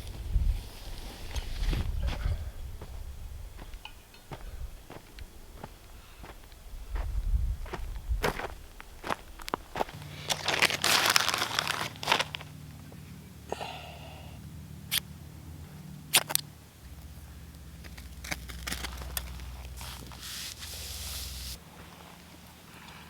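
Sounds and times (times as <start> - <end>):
rustling and crunching: 0.0 - 13.1, 16.1 - 23.0.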